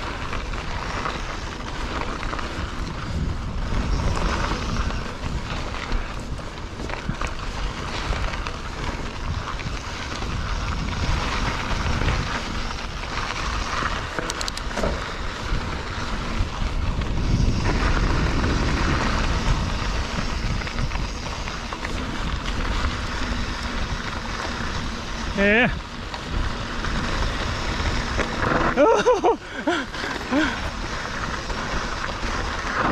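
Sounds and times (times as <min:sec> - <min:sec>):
bike tyre and drivetrain rattle: 0:00.0 - 0:32.9
wind buffeting microphone: 0:00.0 - 0:32.9.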